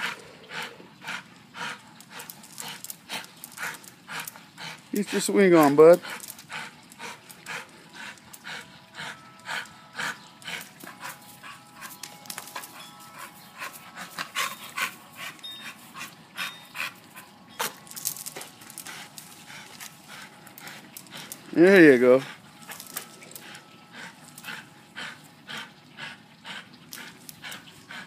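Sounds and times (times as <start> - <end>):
dog breathing hard: 0.0 - 28.0.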